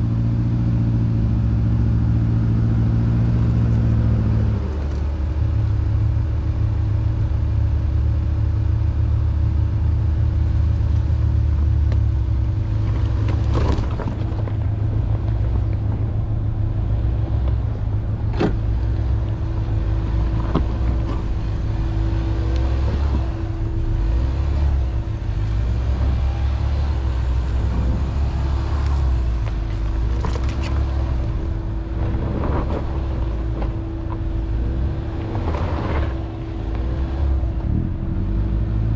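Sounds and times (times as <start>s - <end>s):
constant hum: 0.0s - 38.9s
engine and tyres rumbling: 0.0s - 38.9s.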